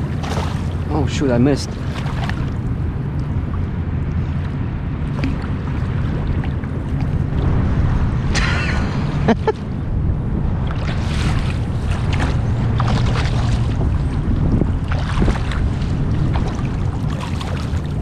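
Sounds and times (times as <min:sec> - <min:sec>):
water splashing and sloshing: 0:00.0 - 0:18.0
wind buffeting microphone: 0:00.0 - 0:18.0.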